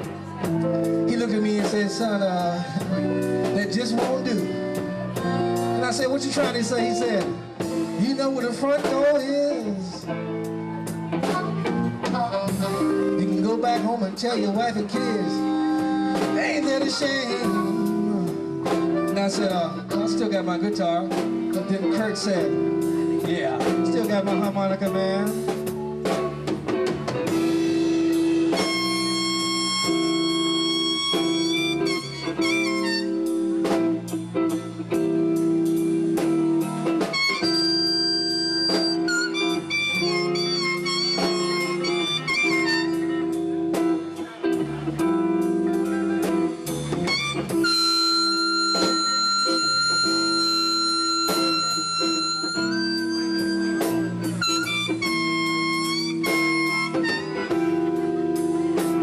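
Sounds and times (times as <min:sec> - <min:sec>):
electric guitar: 0:00.0 - 0:59.0
harmonica notes bending: 0:00.0 - 0:59.0
steady drum beat: 0:00.0 - 0:59.0.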